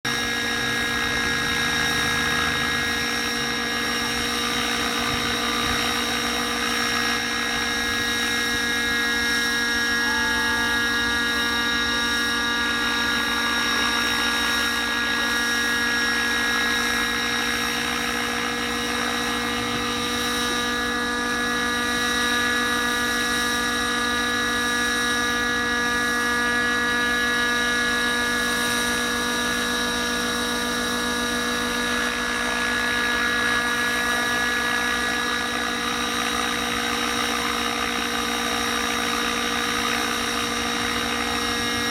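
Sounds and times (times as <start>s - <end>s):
small helicopter hovering: 0.0s - 41.9s.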